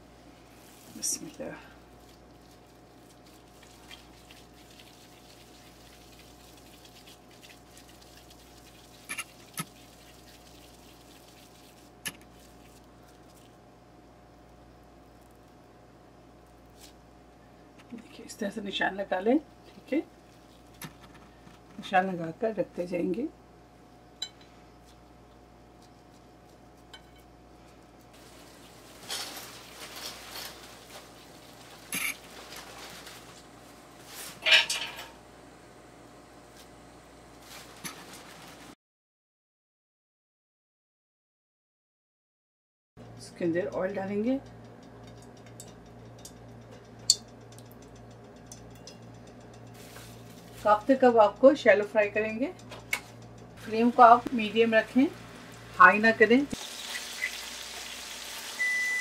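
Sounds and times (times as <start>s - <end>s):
steady low hum: 0.0s - 37.9s, 43.0s - 56.6s.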